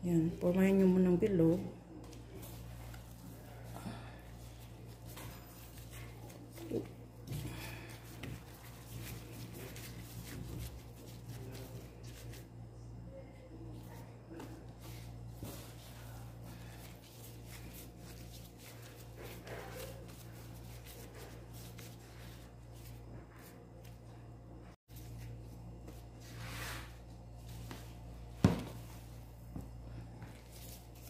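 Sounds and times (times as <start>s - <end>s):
steady low hum: 0.0s - 31.0s
dough and plastic gloves handling: 0.1s - 31.0s.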